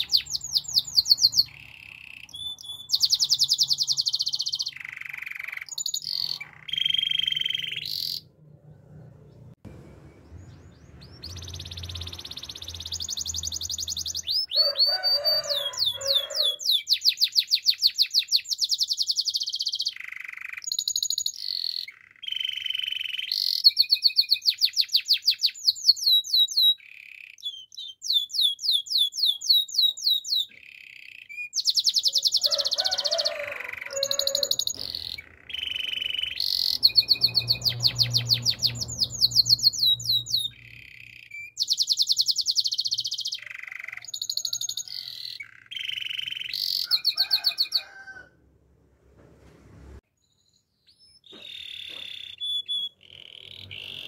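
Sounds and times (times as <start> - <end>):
canary singing trills: 0.0 - 9.5, 10.1 - 48.2, 50.2 - 54.0.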